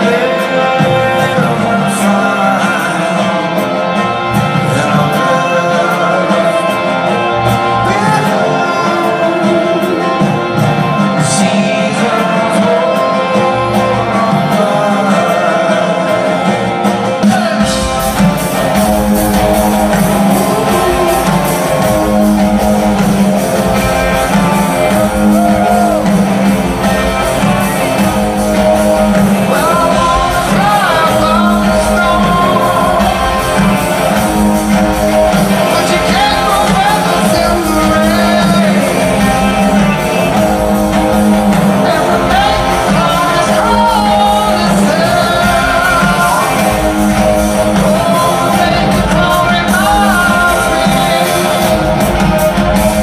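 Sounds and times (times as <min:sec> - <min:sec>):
bass guitar: 0:00.0 - 0:53.0
electric guitars: 0:00.0 - 0:53.0
man singing: 0:00.0 - 0:53.0.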